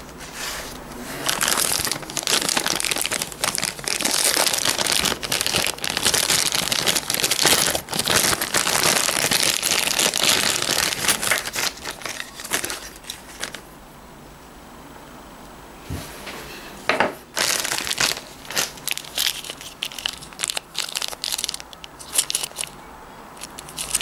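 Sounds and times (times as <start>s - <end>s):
plastic bag crinkling: 0.7s - 13.7s, 17.3s - 24.0s.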